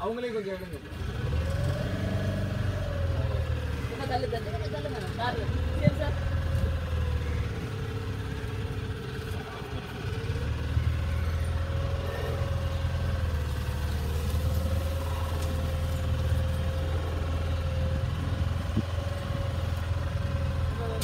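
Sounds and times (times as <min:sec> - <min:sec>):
boat motor droning: 0:00.8 - 0:21.0.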